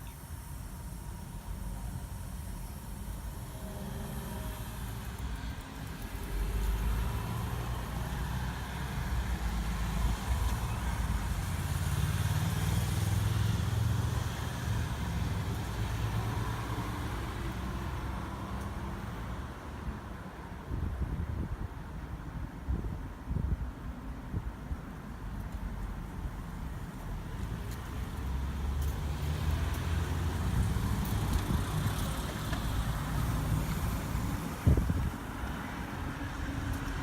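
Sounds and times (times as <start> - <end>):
vehicle engine rumble: 0.0 - 37.0.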